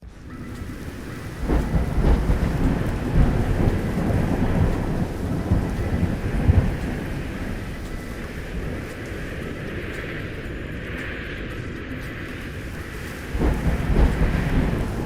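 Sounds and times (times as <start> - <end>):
pouring rain: 0.0 - 15.0
thunder rumbling: 0.0 - 15.0.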